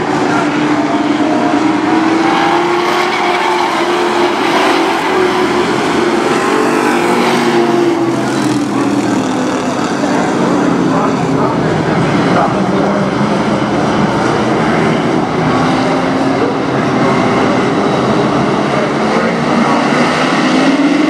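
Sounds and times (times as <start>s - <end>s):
race truck engines droning: 0.0s - 21.0s.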